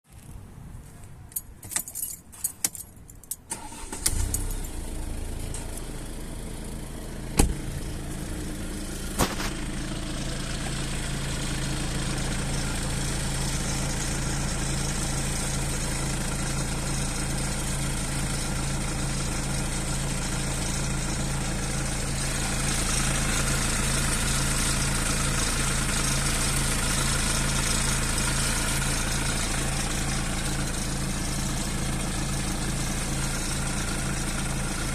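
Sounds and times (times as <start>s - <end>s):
diesel engine starting and idling: 3.4s - 34.9s.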